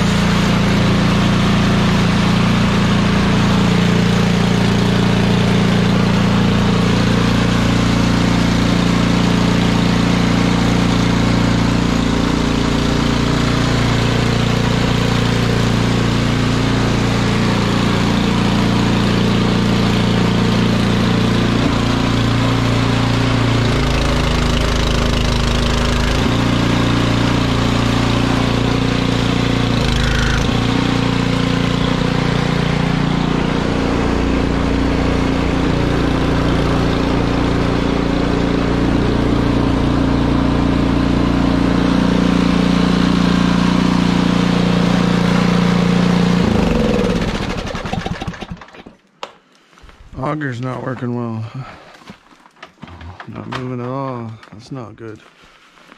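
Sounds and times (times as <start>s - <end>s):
snowblower engine running: 0.0s - 50.3s.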